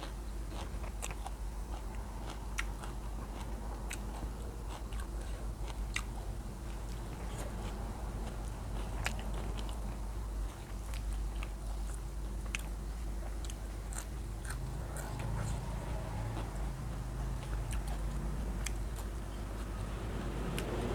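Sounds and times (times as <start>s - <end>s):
person chewing and crunching food: 0.0s - 20.9s
steady low hum: 0.0s - 20.9s.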